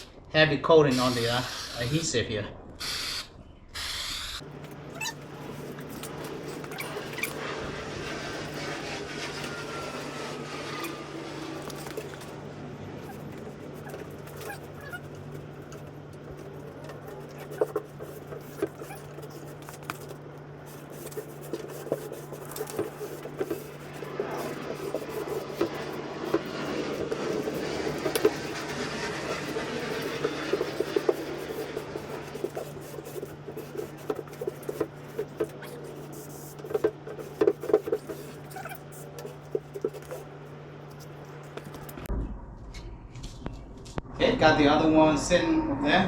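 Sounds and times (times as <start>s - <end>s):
carpet rubbing and scraping: 4.4s - 42.1s.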